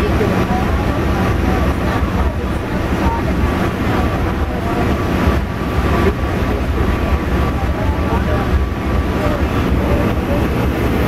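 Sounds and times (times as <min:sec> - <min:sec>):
rushing air: 0:00.0 - 0:11.0
train rumbling: 0:00.0 - 0:11.0.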